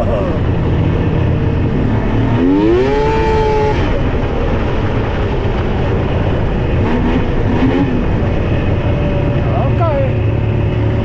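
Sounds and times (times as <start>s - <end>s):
snowmobile engine revving: 0.0s - 4.6s, 6.7s - 11.0s
wind noise: 0.0s - 11.0s.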